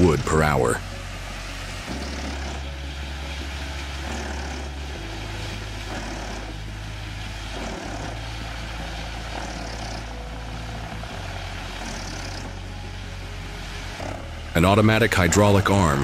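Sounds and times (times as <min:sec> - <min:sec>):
diesel engine drone: 0:00.0 - 0:16.0
wood chipper chipping hiss: 0:00.0 - 0:16.0.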